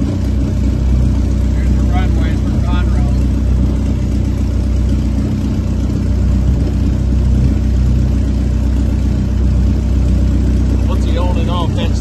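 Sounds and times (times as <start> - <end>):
aircraft engine running steadily: 0.0 - 12.0.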